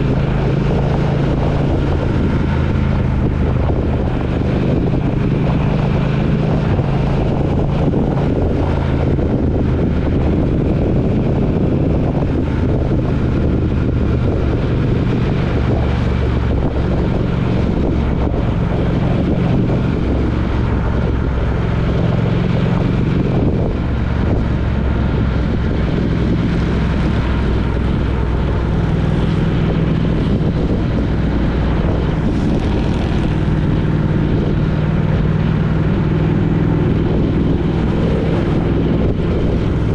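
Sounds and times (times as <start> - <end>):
road and wind noise: 0.0 - 39.9
vehicle engine humming: 0.0 - 39.9.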